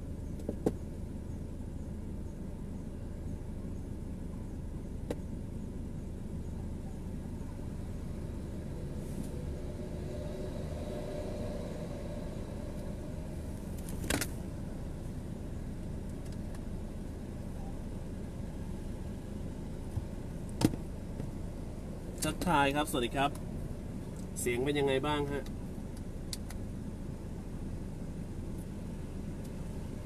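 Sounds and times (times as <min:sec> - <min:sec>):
low background rumble: 0:00.0 - 0:30.0.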